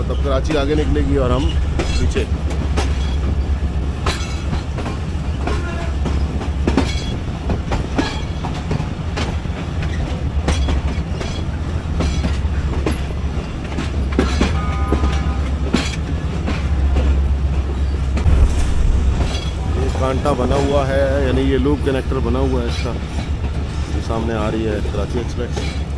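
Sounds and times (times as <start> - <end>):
train wheels clattering over joints: 0.0 - 18.6, 19.2 - 25.9
low rumble of moving train: 0.0 - 25.9.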